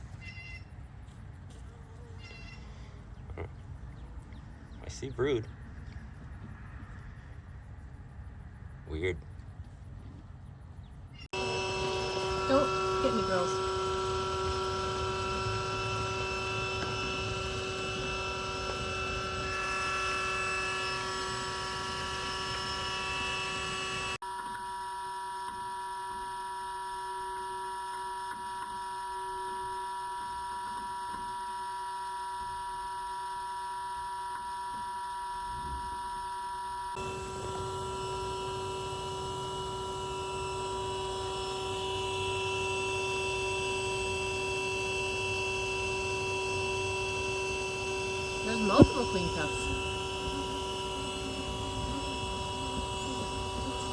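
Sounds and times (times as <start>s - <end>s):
bee vacuum humming: 0.0s - 7.9s, 11.3s - 53.9s.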